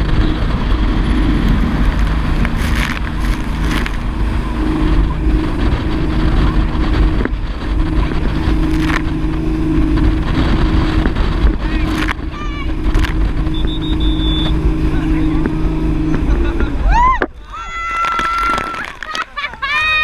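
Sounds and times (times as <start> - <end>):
hull slapping water: 0.0 - 20.0
speedboat engine running: 0.0 - 20.0
wind buffeting microphone: 0.0 - 20.0.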